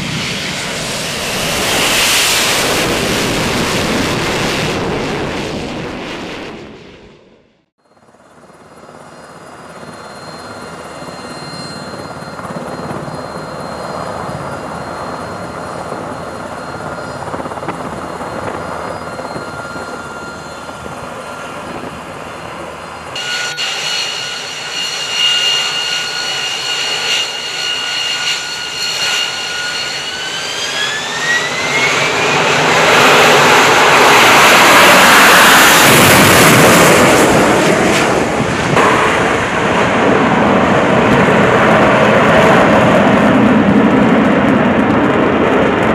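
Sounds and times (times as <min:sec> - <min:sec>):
loud jet rush: 0:00.0 - 0:07.4, 0:14.0 - 0:45.9
helicopter rotor and turbines: 0:00.0 - 0:45.9
jet engine whine spooling up: 0:00.0 - 0:45.9.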